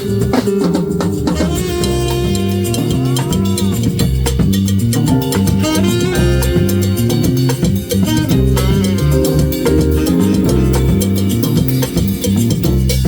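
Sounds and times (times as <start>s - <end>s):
bass line: 0.0s - 13.0s
drum kit beat: 0.0s - 13.0s
live band playing latin music: 0.0s - 13.0s.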